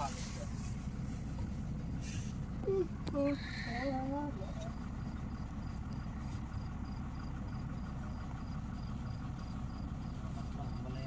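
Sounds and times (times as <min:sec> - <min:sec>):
drilling rig engine drone: 0:00.0 - 0:11.0.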